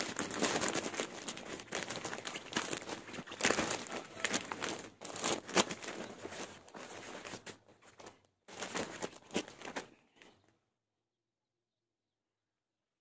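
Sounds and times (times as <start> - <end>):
plastic sheeting crinkling: 0.0 - 10.4.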